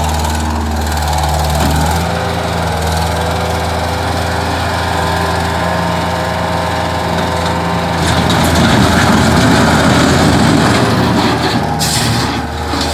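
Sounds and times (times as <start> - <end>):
loader engine running: 0.0 - 12.9.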